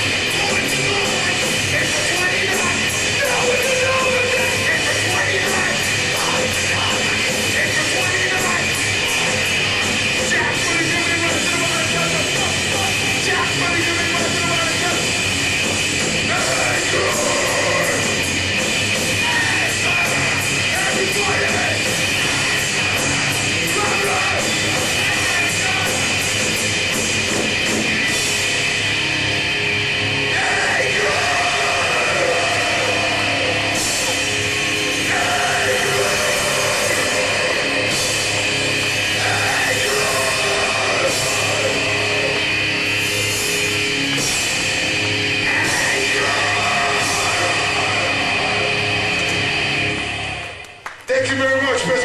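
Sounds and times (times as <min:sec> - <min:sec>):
bass guitar: 0:00.0 - 0:52.0
distorted guitars: 0:00.0 - 0:52.0
drums: 0:00.0 - 0:52.0
live heavy metal band: 0:00.0 - 0:52.0.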